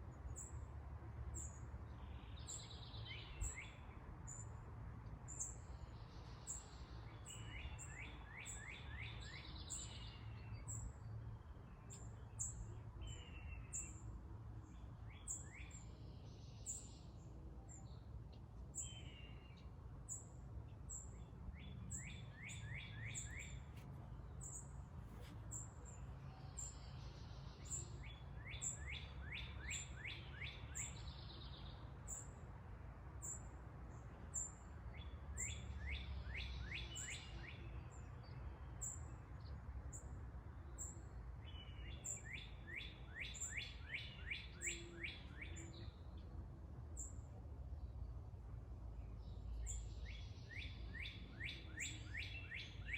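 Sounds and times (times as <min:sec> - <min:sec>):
faint low outdoor rumble: 0:00.0 - 0:52.9.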